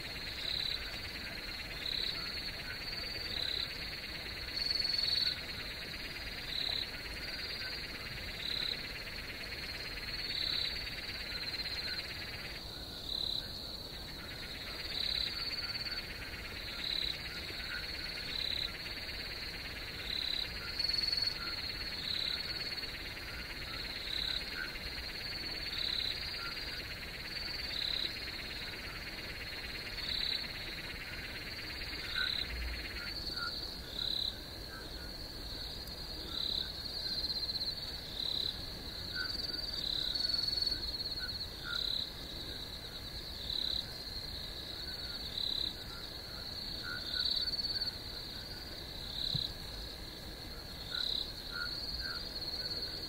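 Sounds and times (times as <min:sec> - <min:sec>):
crickets trilling: 0:00.0 - 0:53.0
frogs calling: 0:00.0 - 0:53.0
hissing insect chorus: 0:00.0 - 0:53.0.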